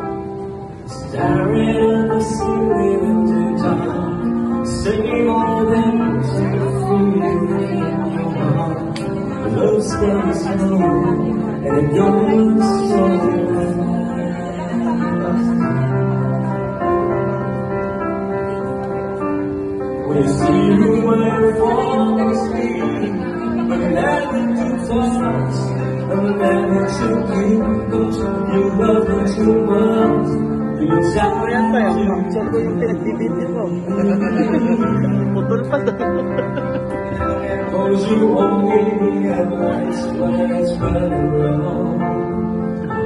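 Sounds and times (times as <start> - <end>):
acoustic guitar: 0.0 - 43.0.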